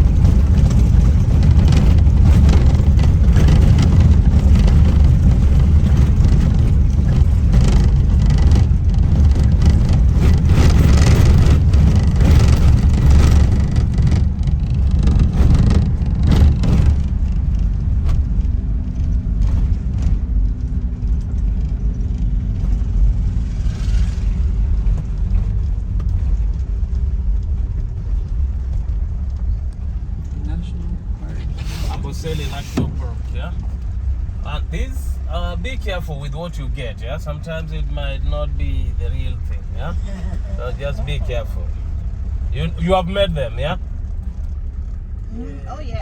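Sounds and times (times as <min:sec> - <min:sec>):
vehicle engine and tyres rumbling: 0:00.0 - 0:46.0
vehicle rattling: 0:00.0 - 0:46.0.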